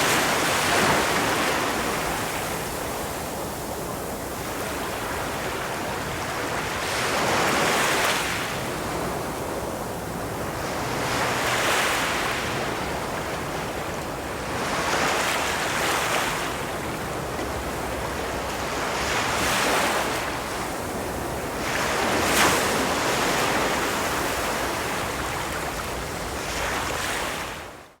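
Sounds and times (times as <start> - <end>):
waves breaking on a beach: 0.0 - 28.0.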